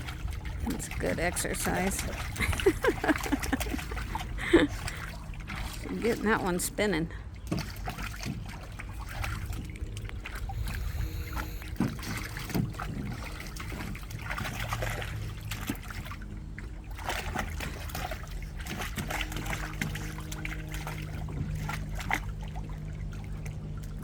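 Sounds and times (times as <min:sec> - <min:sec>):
steady low hum: 0:00.0 - 0:24.0
water splashing in a pool: 0:00.0 - 0:24.0.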